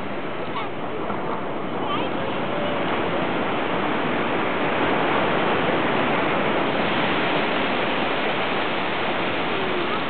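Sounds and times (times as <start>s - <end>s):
ocean surf rushing: 0.0s - 10.0s.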